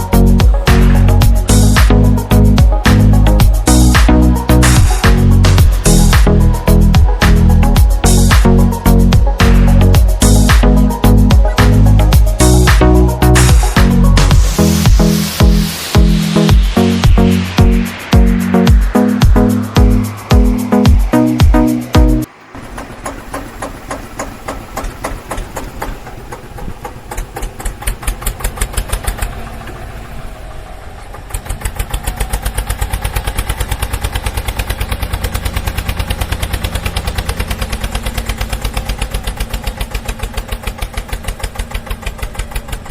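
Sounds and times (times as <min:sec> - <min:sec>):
tractor engine chugging: 0:00.0 - 0:42.9.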